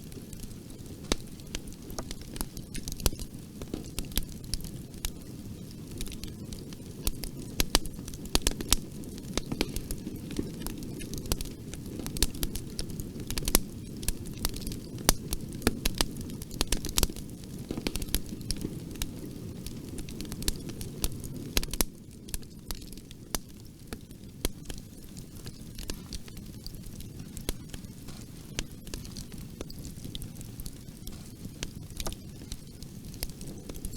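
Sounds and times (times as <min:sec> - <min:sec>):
low rumble of flames: 0:00.0 - 0:33.9
wood crackling and popping: 0:00.0 - 0:33.9.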